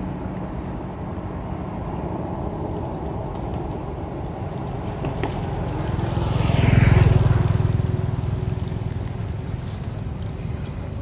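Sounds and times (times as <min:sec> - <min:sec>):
engine passing by: 0:00.0 - 0:11.0.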